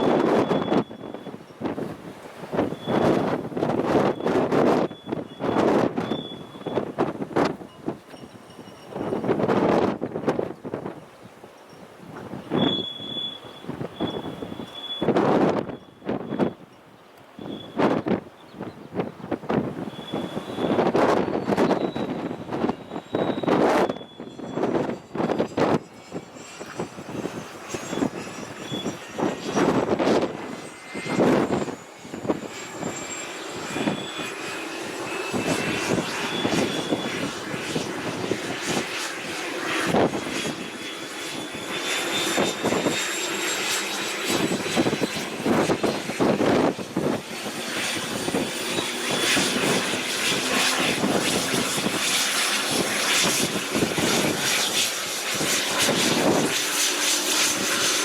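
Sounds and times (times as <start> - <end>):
helicopter turbine whine: 0.0 - 58.0
wind buffeting microphone: 0.0 - 58.0.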